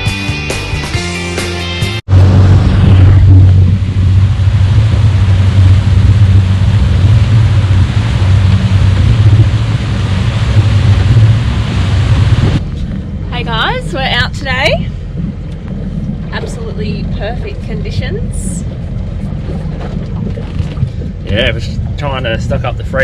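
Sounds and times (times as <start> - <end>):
boat engine humming: 2.1 - 23.0
wind and water rushing: 2.1 - 23.0.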